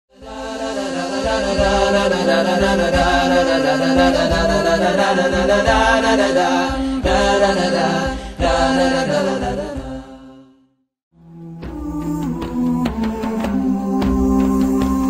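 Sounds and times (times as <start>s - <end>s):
chanting voices with low beat: 0.1s - 10.5s, 11.3s - 15.0s.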